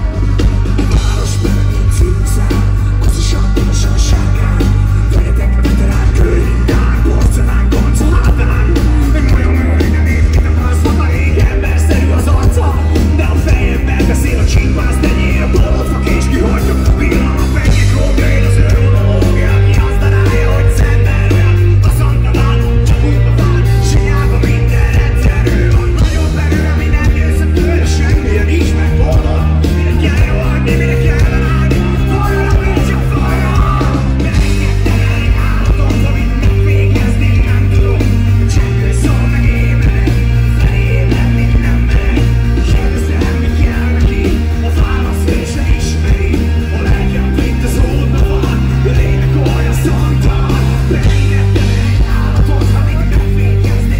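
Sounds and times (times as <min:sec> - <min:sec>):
heavy bass line: 0:00.0 - 0:53.9
live rock band playing: 0:00.0 - 0:53.9
man singing: 0:00.0 - 0:53.9.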